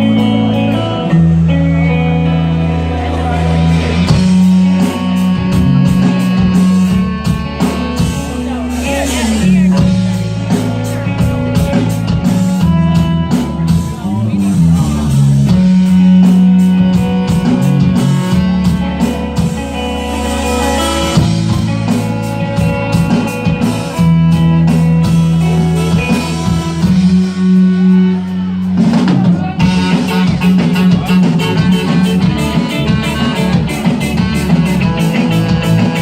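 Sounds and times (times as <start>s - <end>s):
drum kit: 0.0s - 36.0s
electric guitar: 0.0s - 36.0s.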